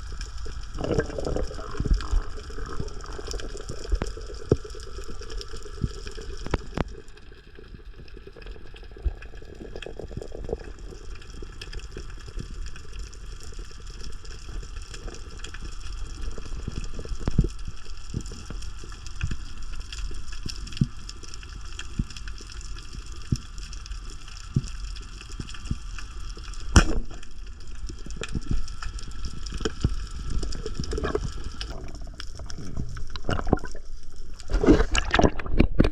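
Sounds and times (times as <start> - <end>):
water gurgling and sloshing: 0.0 - 13.8, 14.4 - 35.9.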